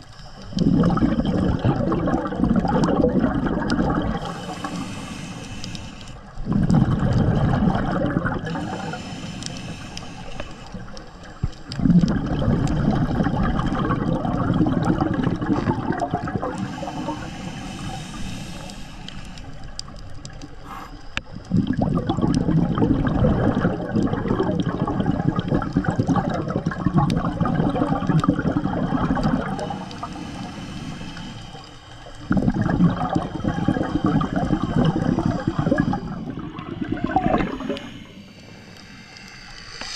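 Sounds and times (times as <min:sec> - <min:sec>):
diver's bubbles gurgling underwater: 0:00.0 - 0:39.9.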